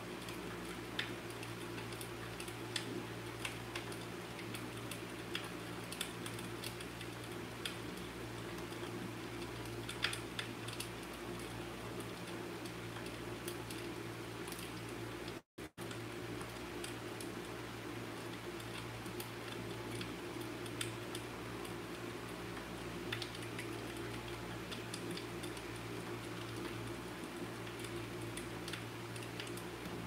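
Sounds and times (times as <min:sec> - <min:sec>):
fireplace crackling: 0:00.0 - 0:30.0
low hiss and hum: 0:00.0 - 0:30.0.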